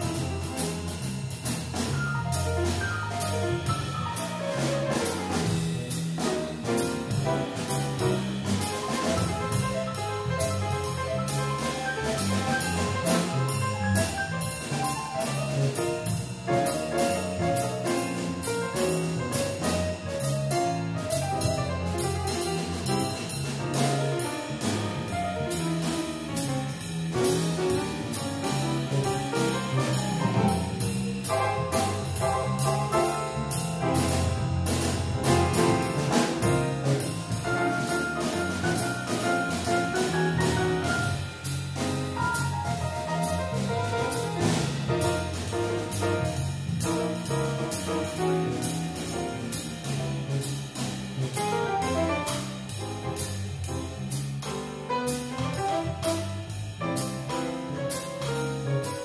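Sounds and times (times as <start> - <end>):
electric bass line: 0.0 - 57.8
drums keeping a steady beat: 0.0 - 59.0
grand piano playing chords: 0.0 - 59.0.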